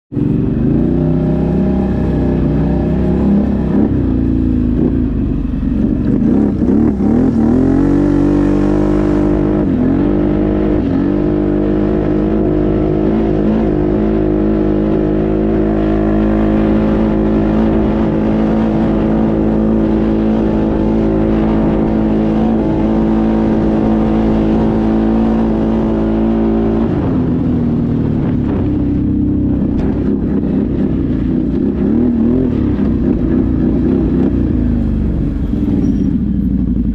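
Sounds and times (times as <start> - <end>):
atv engine running: 0.1 - 36.9.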